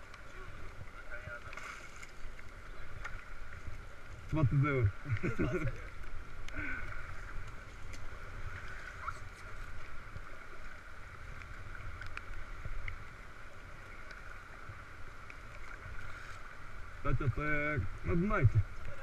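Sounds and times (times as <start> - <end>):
water rushing around raft: 0.0 - 19.0.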